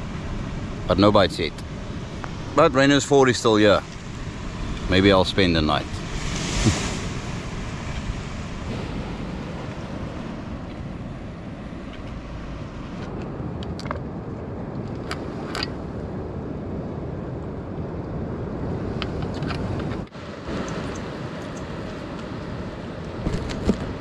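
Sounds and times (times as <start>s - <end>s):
ocean surf washing: 0.0s - 24.0s
wind rumbling on microphone: 0.0s - 24.0s.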